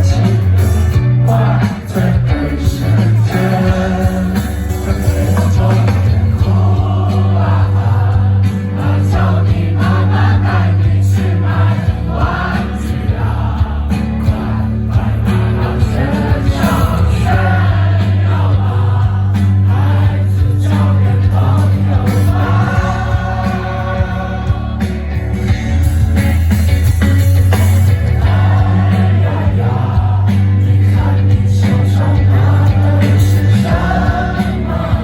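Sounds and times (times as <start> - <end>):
group of voices singing: 0.0 - 26.8, 27.5 - 35.0
live rock band playing: 0.0 - 35.0.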